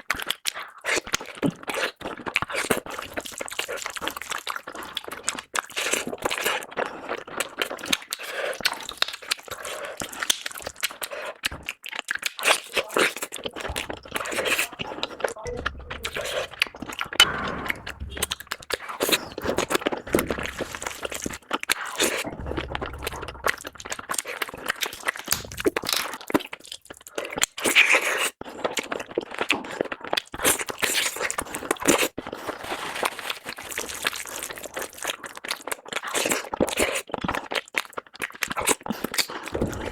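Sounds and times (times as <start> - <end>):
chewing and mouth smacking: 0.0 - 17.3, 18.0 - 39.9.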